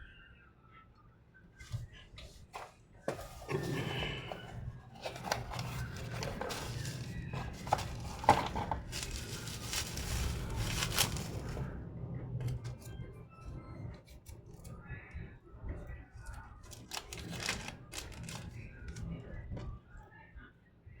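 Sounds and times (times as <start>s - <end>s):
steady low hum: 1.8s - 20.4s.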